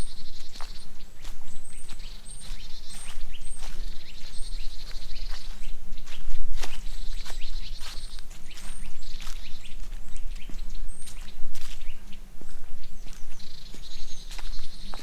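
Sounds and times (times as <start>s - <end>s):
birds chirping: 0.0s - 15.0s
footsteps crunching on trail: 0.0s - 15.0s.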